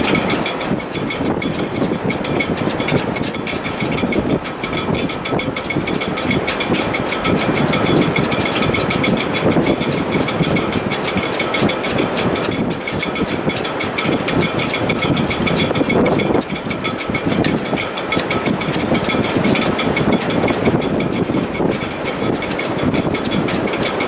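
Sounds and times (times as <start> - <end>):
fast fine rattle: 0.0 - 24.0
wind rushing in rigging: 0.0 - 24.0.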